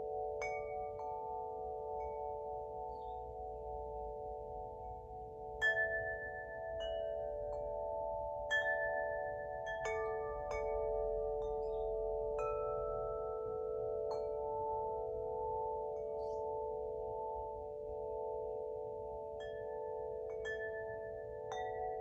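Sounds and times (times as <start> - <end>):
metallic wind chime ringing: 0.0 - 22.0.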